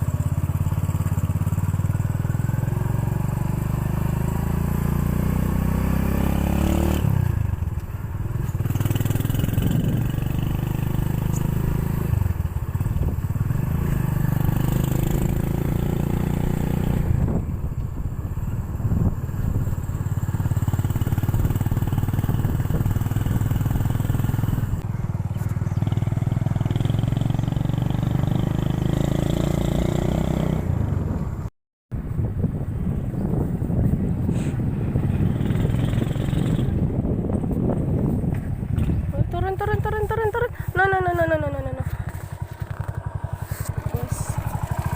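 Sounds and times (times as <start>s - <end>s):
motorcycle engine rumble: 0.0s - 44.9s.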